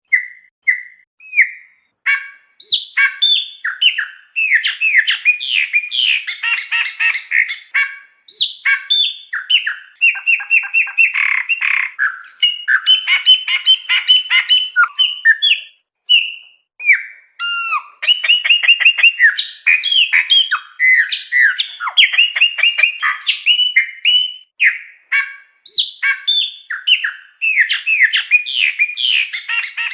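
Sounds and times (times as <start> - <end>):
blackbird singing: 0.1 - 29.9.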